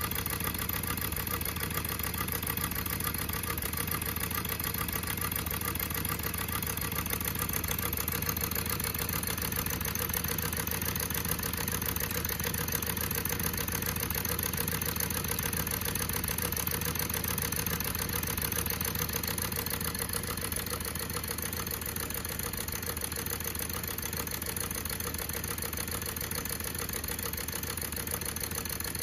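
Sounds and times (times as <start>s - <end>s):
model steam engine running: 0.0s - 29.0s.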